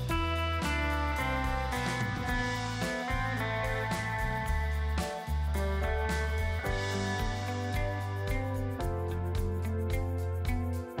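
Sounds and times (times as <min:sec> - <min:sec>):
music with steady beat and bass: 0:00.0 - 0:11.0.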